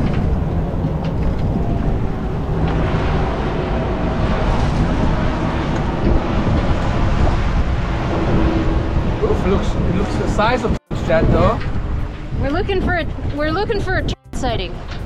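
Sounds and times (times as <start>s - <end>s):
rush of wind and water: 0.0s - 15.0s
wind buffeting microphone: 0.0s - 15.0s.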